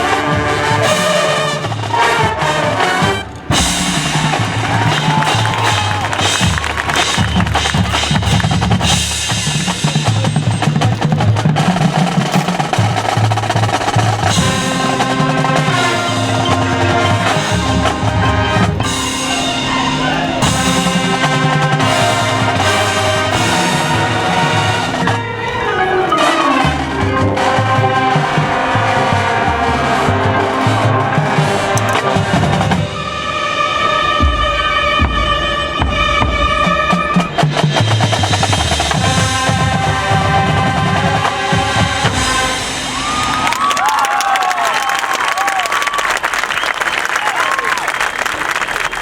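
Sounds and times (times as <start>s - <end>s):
brass and woodwind chords: 0.0s - 10.1s, 12.2s - 43.7s
snare and bass drums: 0.0s - 25.2s, 26.7s - 33.0s, 34.2s - 44.4s
marching band playing: 0.0s - 49.0s.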